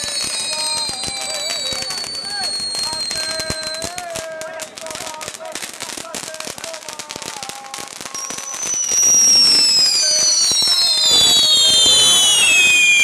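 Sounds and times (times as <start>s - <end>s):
ground fireworks crackling: 0.0s - 13.0s
whistling firework falling in pitch: 0.0s - 13.0s.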